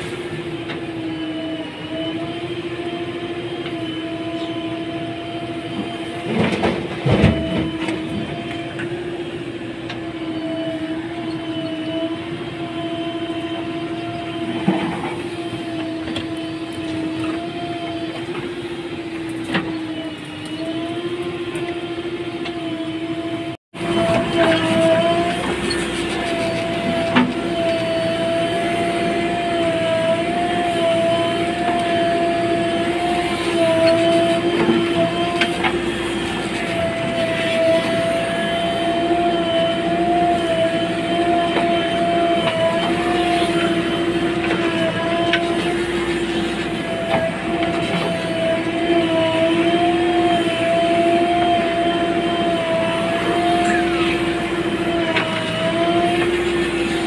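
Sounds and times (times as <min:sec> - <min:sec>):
diesel engine droning whine: 0:00.0 - 0:57.0.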